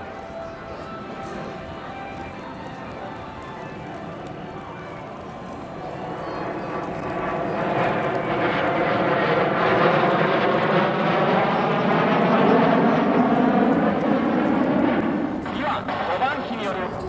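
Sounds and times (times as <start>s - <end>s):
jet engines passing overhead: 0.0s - 17.0s.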